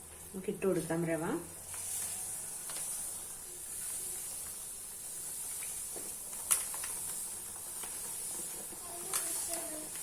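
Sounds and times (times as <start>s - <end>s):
boiling water hissing in a pan: 0.0s - 10.0s.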